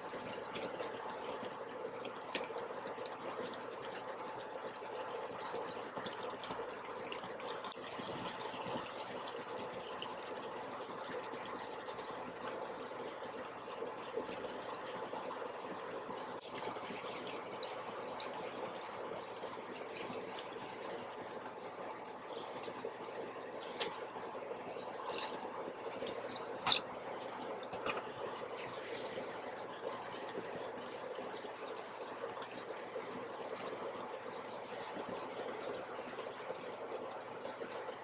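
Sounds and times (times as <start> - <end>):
sauce sizzling and bubbling in pan: 0.0 - 38.0.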